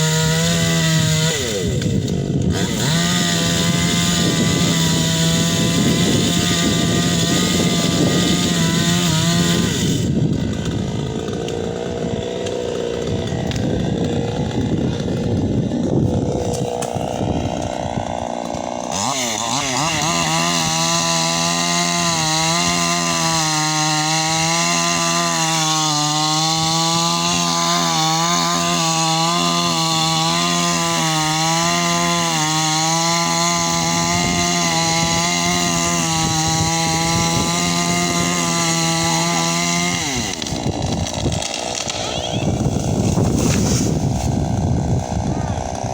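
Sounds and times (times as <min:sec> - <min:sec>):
chainsaw running at high revs: 0:00.0 - 0:45.9.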